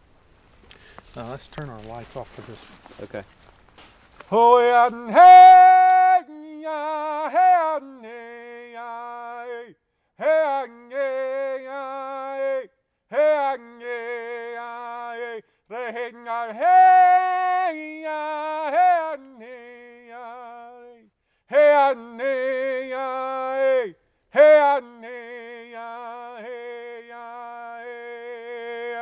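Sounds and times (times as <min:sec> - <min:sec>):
man singing unaccompanied: 0:04.3 - 0:29.0.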